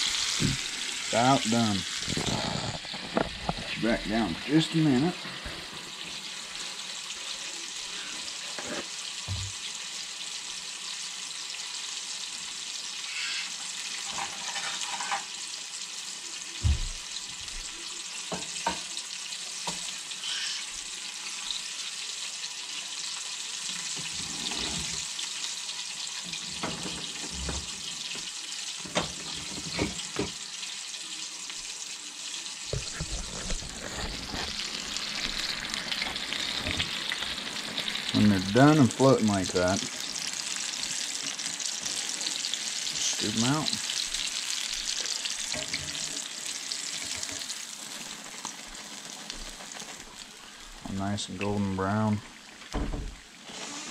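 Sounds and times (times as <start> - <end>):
fish deep-frying in oil: 0.0 - 53.9.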